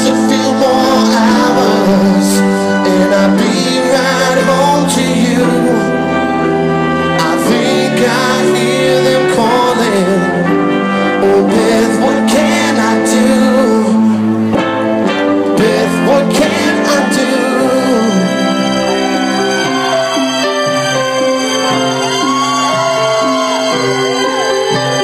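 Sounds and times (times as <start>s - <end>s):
live band music: 0.0s - 25.0s
singer singing into microphone: 0.0s - 25.0s.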